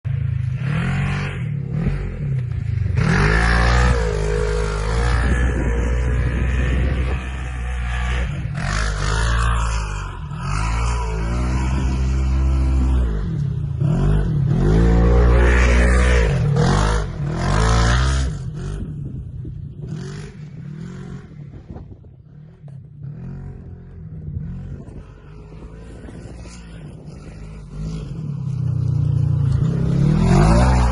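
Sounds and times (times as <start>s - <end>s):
engine revving: 0.1s - 19.2s, 19.8s - 30.9s.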